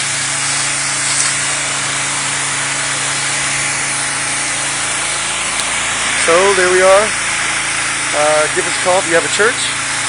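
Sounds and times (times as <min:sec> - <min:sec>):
pressure washer engine hum: 0:00.0 - 0:10.0
water spray hiss: 0:00.0 - 0:10.0.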